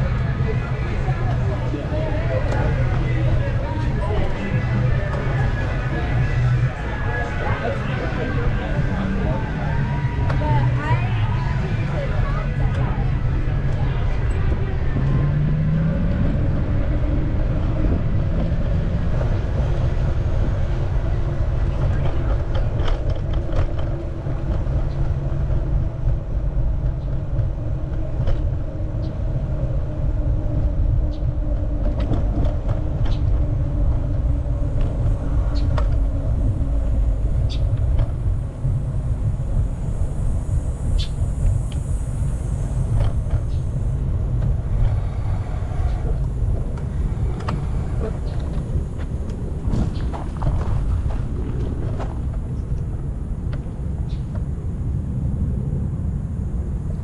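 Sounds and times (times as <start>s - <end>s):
steady low hum: 0.0s - 57.0s
wind rushing over microphone: 0.0s - 57.0s.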